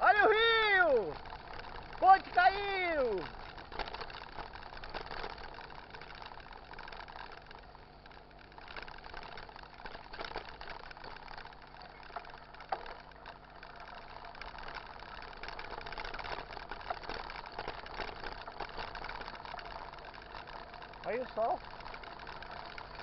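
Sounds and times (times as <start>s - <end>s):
bike rattling and clicking: 0.0s - 23.0s
bike tyres on cobbles: 0.0s - 23.0s.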